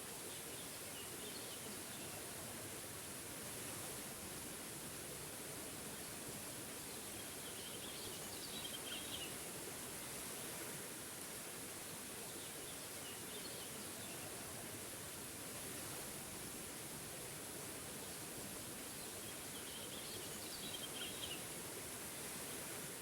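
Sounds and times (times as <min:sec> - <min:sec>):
small waterfall rushing: 0:00.0 - 0:23.0.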